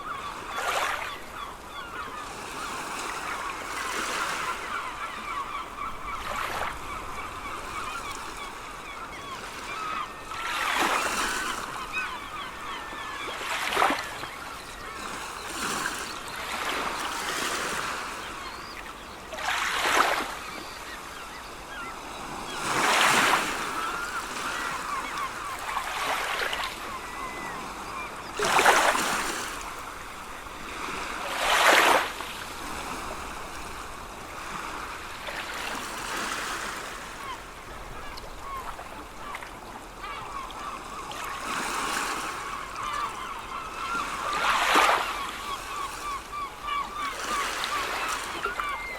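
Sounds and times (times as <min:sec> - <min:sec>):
sea waves breaking on shore: 0:00.0 - 0:48.9
seagulls calling: 0:00.0 - 0:48.9.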